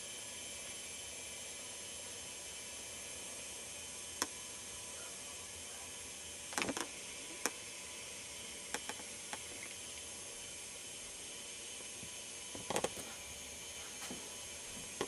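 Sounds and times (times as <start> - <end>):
camcorder hiss and hum: 0.0 - 15.0.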